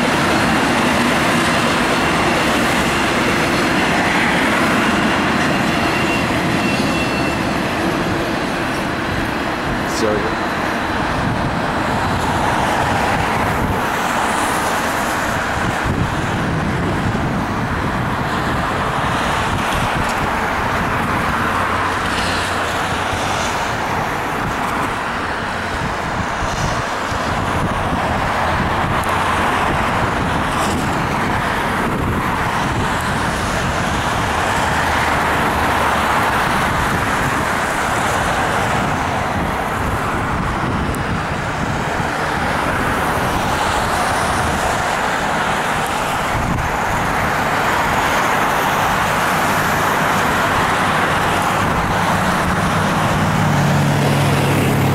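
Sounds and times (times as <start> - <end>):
cars driving past: 0.0 - 54.9.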